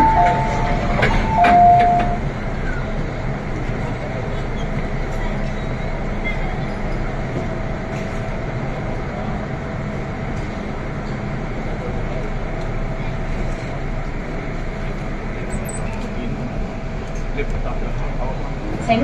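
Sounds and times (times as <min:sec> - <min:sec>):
train cabin rumble and hum: 0:00.0 - 0:19.0.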